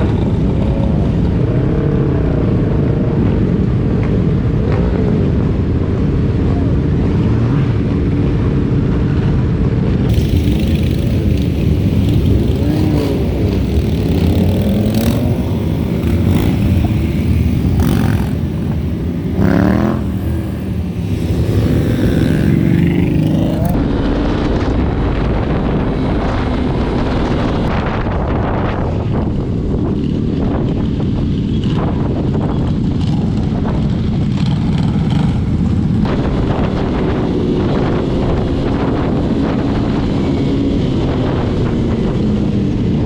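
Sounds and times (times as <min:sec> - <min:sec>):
motorcycle engine while riding: 0:00.0 - 0:43.0.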